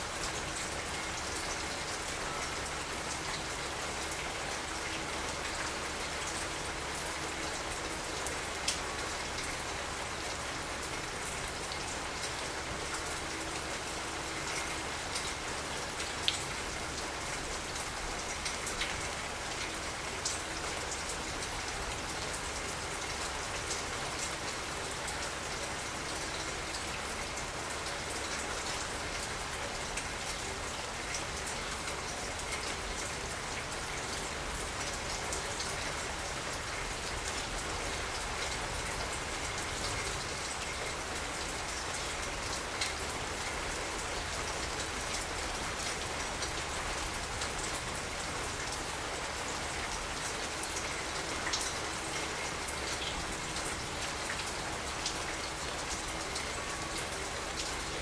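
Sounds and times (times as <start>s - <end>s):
rain drops ticking on surfaces: 0.0s - 58.0s
steady rain hiss: 0.0s - 58.0s.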